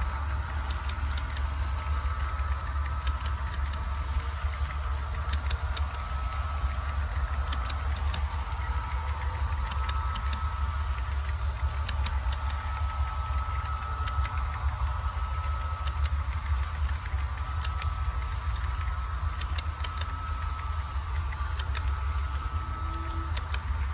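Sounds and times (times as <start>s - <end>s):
model train hum: 0.0s - 23.9s
motor whine: 0.0s - 23.9s
wheels clicking over rail joints: 0.0s - 23.9s.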